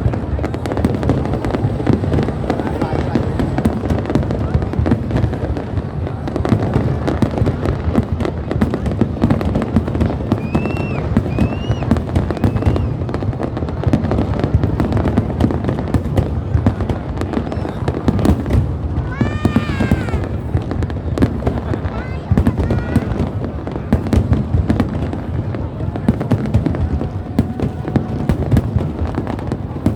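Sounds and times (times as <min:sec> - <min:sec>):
fireworks crackling and banging: 0:00.0 - 0:29.9
fireworks whistling: 0:00.0 - 0:29.9.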